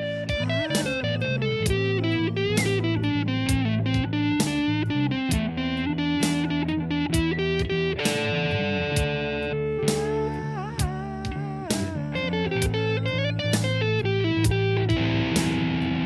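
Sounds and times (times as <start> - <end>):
instrumental rock music: 0.0 - 16.0.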